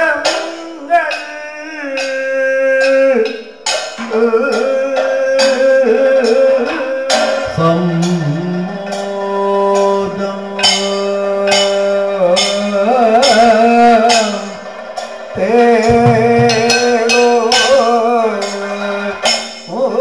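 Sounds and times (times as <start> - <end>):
man singing: 0.0 - 14.6, 15.3 - 20.0
metallic percussion strikes: 0.2 - 19.8.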